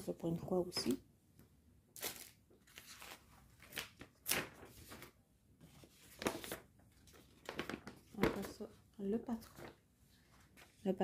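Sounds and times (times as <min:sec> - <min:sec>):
paper rustling: 0:02.0 - 0:11.0.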